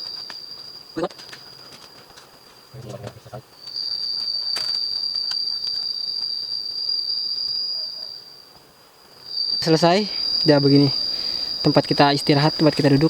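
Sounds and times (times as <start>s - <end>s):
insect high-pitched call: 0.0s - 13.0s.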